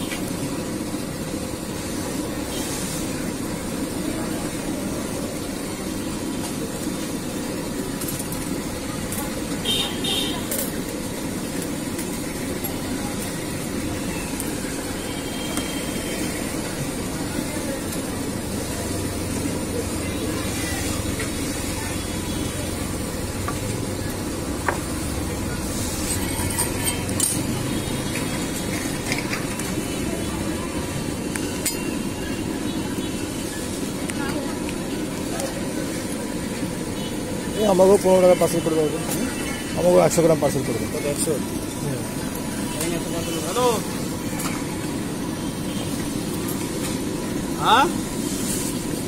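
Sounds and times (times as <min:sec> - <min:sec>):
street traffic rumble: 0:00.0 - 0:49.0.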